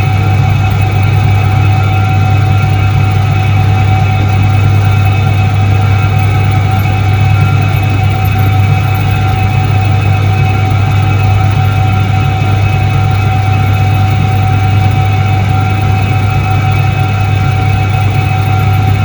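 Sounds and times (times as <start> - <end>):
constant high tone: 0.0 - 19.0
washing machine motor hum: 0.0 - 19.0.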